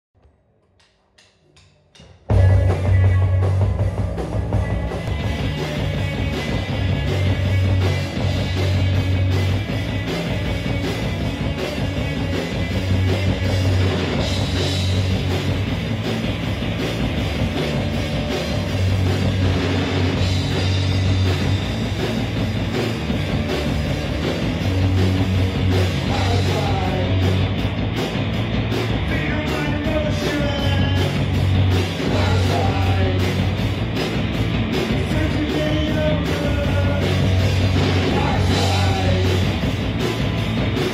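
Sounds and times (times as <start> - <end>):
rock band playing: 2.2 - 40.9
held bass notes: 2.3 - 40.9.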